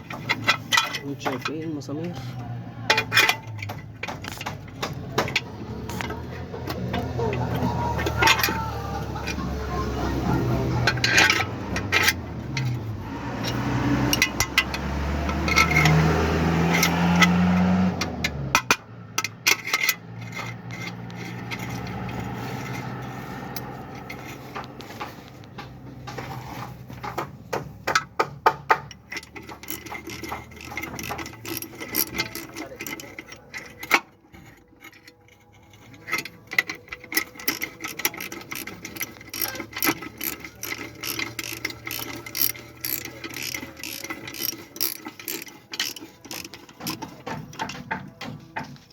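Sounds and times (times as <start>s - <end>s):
metal tools clinking on bolts: 0.0s - 48.9s.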